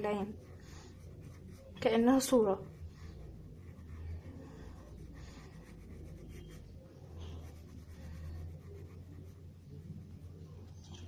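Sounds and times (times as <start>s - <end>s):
pencil shading on paper: 0.0s - 10.8s.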